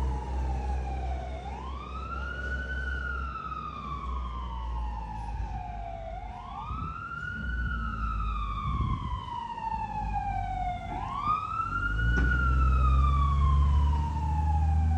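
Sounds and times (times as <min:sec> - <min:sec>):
fire engine siren wailing: 0:00.0 - 0:14.9
heavy vehicle engine rumbling: 0:00.0 - 0:14.9.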